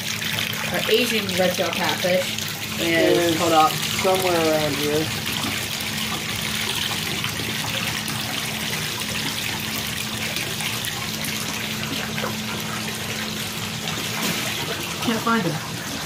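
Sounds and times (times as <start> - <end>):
low steady hum: 0.0 - 16.0
running splashing water: 0.0 - 16.0.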